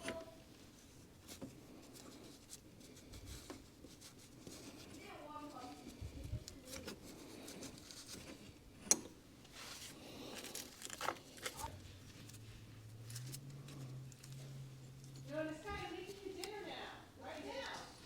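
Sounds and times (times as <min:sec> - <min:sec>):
low steady hum: 0:00.0 - 0:18.0
rustling: 0:00.0 - 0:18.0.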